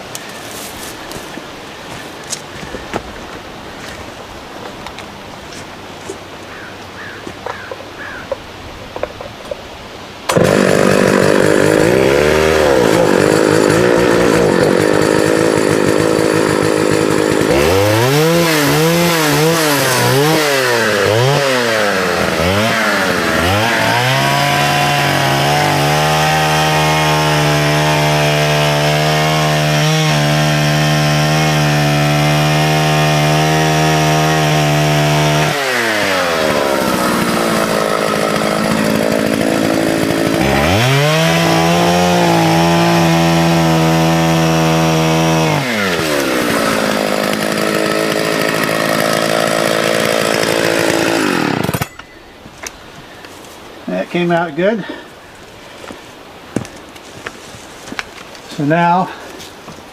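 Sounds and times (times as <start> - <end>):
chainsaw cutting wood: 0.0 - 3.1, 5.6 - 8.4, 10.3 - 53.4.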